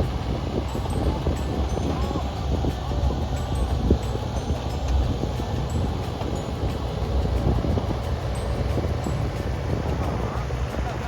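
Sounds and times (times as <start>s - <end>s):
diesel engine rumbling: 0.0s - 11.0s
wind buffeting microphone: 0.0s - 11.0s.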